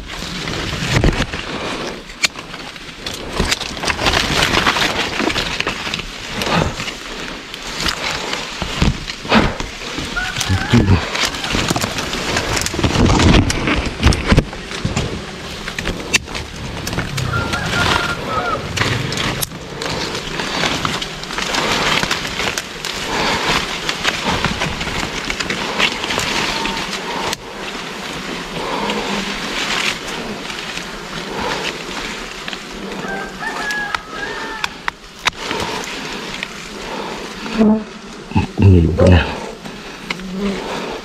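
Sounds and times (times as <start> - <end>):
twigs snapping: 0.0 - 37.1
leaves and branches rustling: 0.0 - 41.0.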